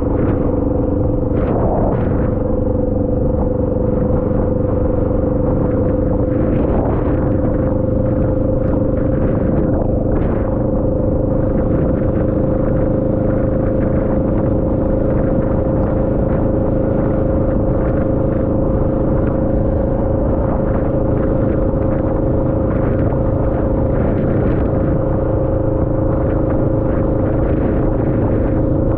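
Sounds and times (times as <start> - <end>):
vehicle driving on wet road: 0.0 - 28.9.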